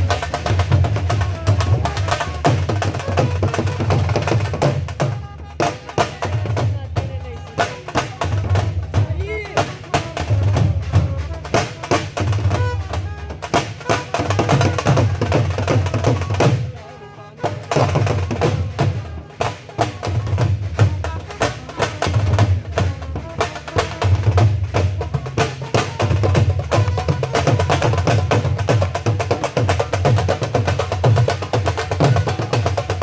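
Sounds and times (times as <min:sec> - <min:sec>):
dhol drumming: 0:00.0 - 0:33.0.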